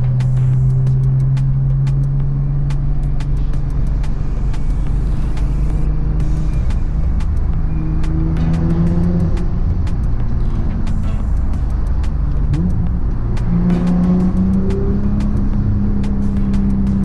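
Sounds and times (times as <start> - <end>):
car engine cruising drone: 0.0 - 17.0
road noise: 0.0 - 17.0.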